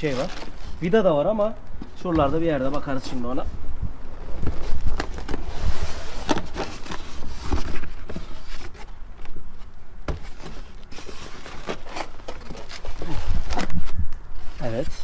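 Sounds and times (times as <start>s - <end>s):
cardboard and foam rustling: 0.0s - 3.4s, 4.2s - 15.0s.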